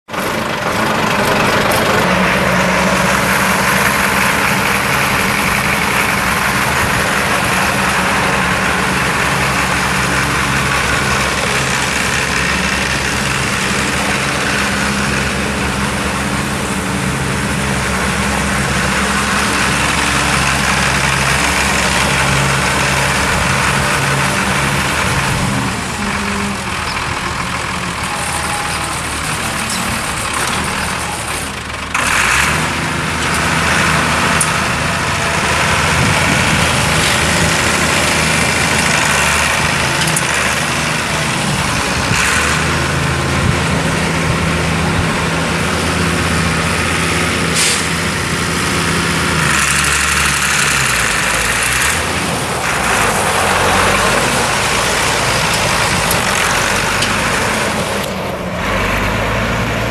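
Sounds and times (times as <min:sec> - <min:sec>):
diesel engine idling: 0:00.1 - 0:59.9.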